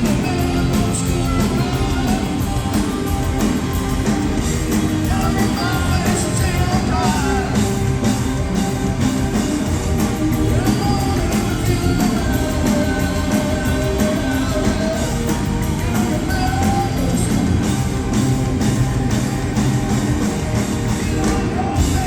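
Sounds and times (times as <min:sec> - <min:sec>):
live rock band playing: 0:00.0 - 0:22.0
sliding lead melody: 0:00.0 - 0:22.0.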